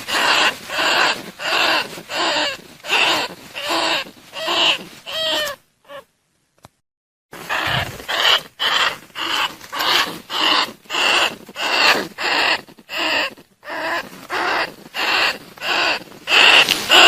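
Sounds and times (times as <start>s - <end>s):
rat squeaks: 0.0s - 6.0s, 7.4s - 17.0s.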